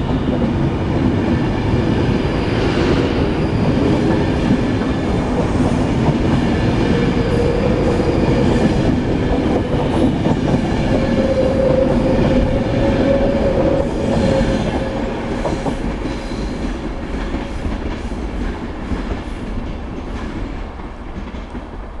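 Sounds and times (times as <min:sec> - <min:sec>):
steady train whine: 0:00.0 - 0:22.0
train wheels rumbling: 0:00.0 - 0:22.0.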